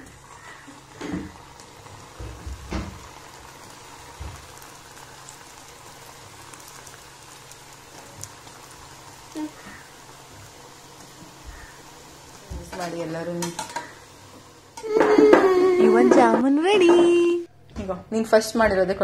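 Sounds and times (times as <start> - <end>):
dough frying in hot oil: 0.0 - 16.2.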